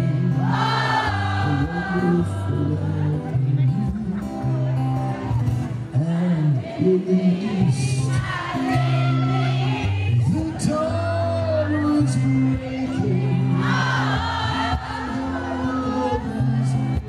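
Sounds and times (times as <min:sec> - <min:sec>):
audience singing along: 0:00.0 - 0:03.7, 0:06.2 - 0:11.3, 0:12.1 - 0:17.0.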